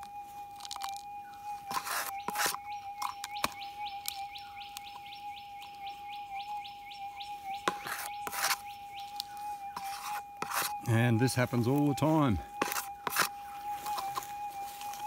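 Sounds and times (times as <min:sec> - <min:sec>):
bird chirping: 0:01.0 - 0:15.0
metal detector hum: 0:01.2 - 0:15.0.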